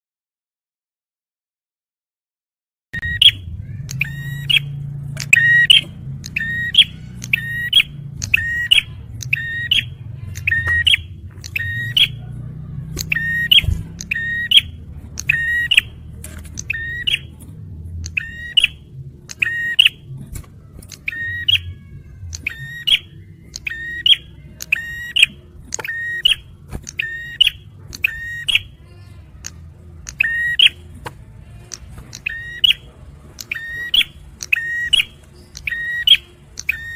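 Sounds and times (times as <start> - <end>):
low background hum: 3.0 - 36.9.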